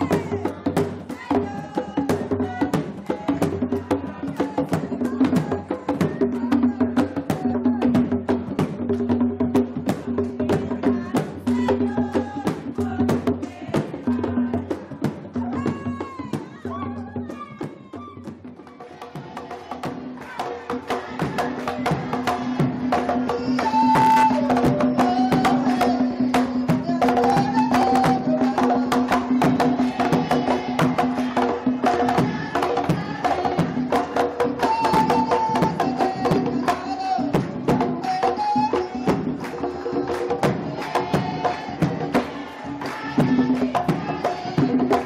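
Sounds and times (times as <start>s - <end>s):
folk music with percussion: 0.0s - 45.0s.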